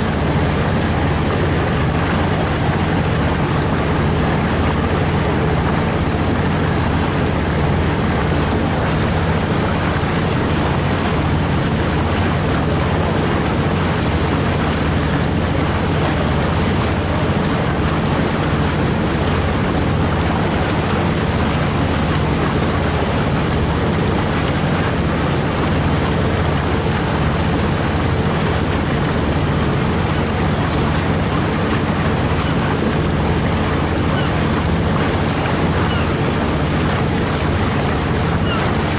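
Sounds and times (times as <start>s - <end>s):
boat engine droning: 0.0s - 38.9s
water rushing: 0.0s - 38.9s
wind: 0.0s - 38.9s.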